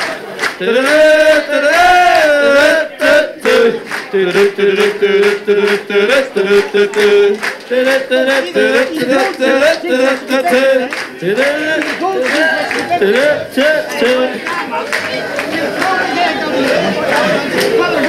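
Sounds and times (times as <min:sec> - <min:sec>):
steady beat: 0:00.0 - 0:18.0
men singing in unison: 0:00.4 - 0:18.0.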